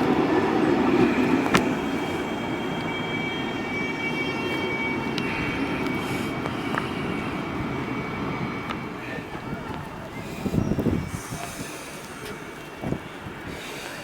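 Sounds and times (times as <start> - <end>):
high whining tones: 0.0 - 13.2
rushing rail noise: 0.0 - 14.0.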